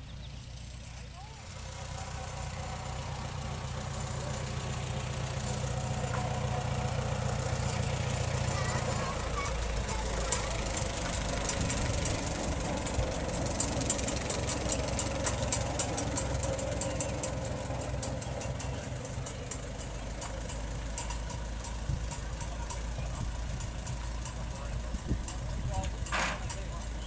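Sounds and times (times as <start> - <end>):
old engine idling: 0.0 - 27.0.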